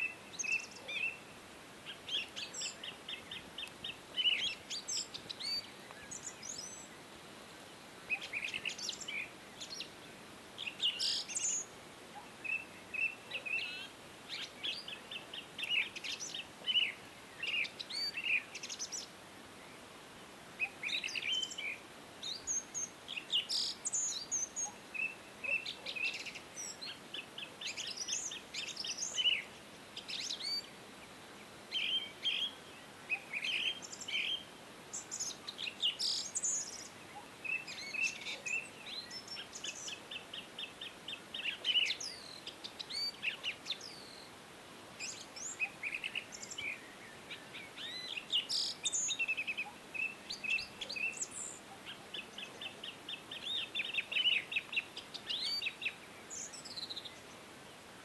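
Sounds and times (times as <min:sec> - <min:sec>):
faint steady hiss: 0:00.0 - 0:58.0
small birds chirping and trilling: 0:00.0 - 0:58.0.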